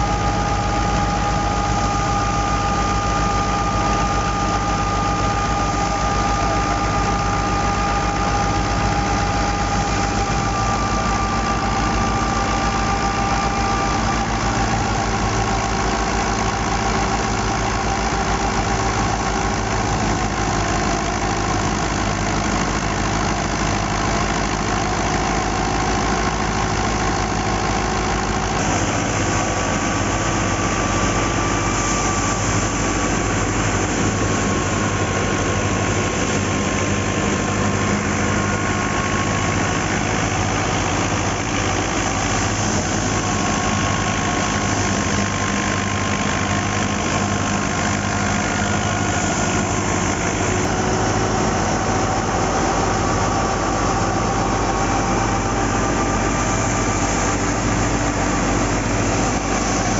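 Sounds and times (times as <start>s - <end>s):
thresher drum hum and whine: 0.0s - 59.9s
tractor diesel engine running: 0.0s - 59.9s.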